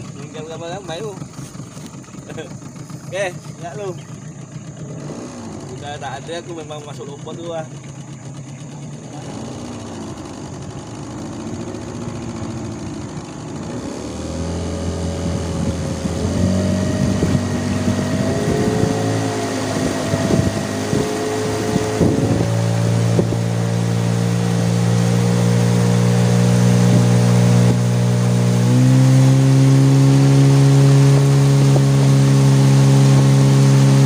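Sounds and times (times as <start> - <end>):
outboard motor: 0.0 - 34.0.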